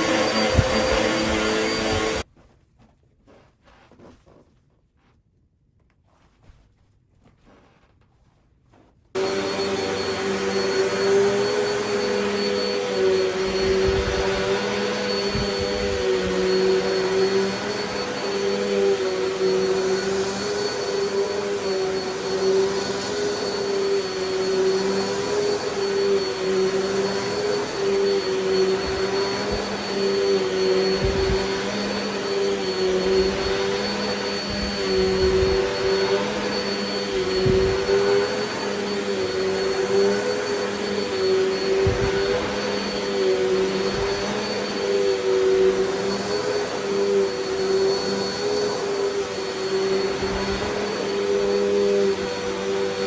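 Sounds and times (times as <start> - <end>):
vacuum cleaner running: 0.0 - 2.3, 8.8 - 53.0.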